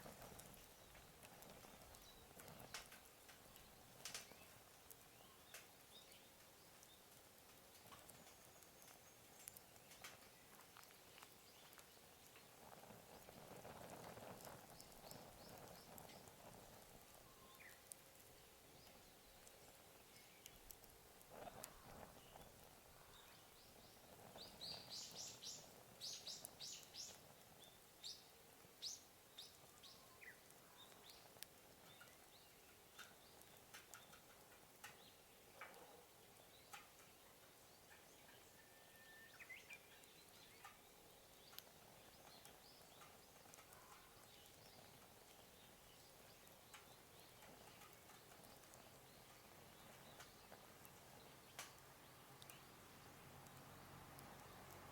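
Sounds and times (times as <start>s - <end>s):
campfire crackling and popping: 0.0s - 38.6s, 39.4s - 54.9s.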